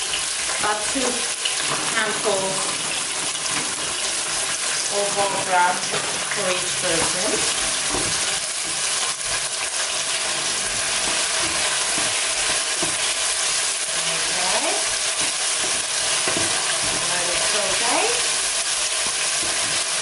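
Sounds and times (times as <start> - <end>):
vegetables sizzling in hot oil: 0.0 - 20.0
wooden spoon stirring: 1.4 - 20.0.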